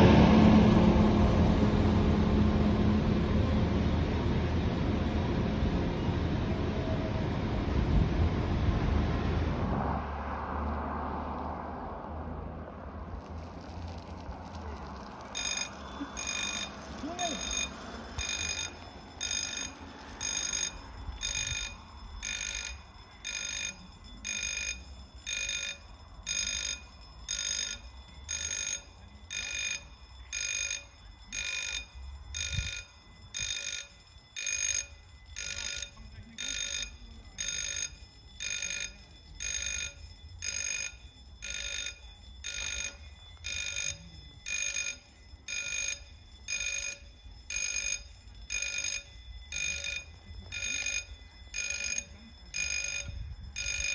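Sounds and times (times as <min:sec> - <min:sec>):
level crossing warning bell: 0:00.0 - 0:53.9.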